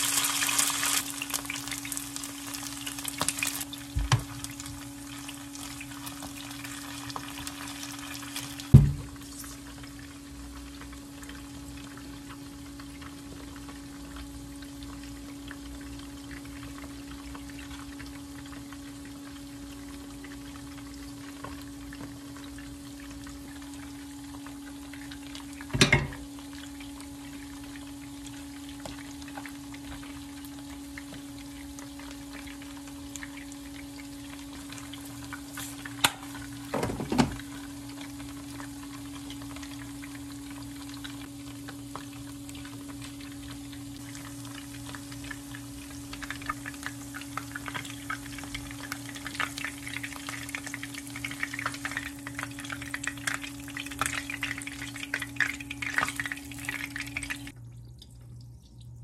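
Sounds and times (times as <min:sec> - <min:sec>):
shrimp deep-frying in oil: 0:00.0 - 0:59.0.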